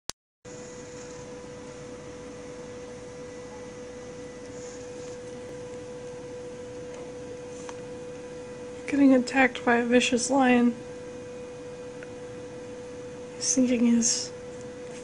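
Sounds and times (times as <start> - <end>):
steady electrical hum: 0.5 - 15.0.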